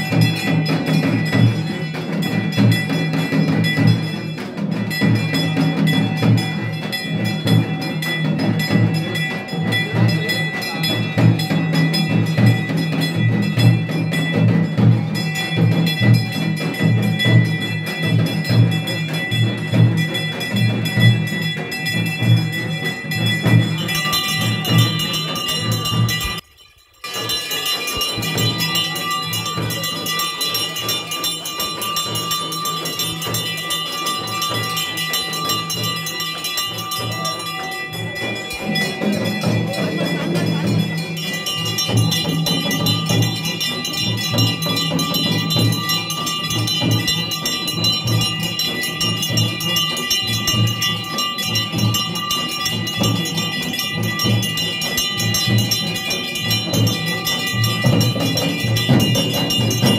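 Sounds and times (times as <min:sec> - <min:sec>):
bells ringing: 0:00.0 - 0:59.9
drum beating: 0:00.0 - 0:59.9.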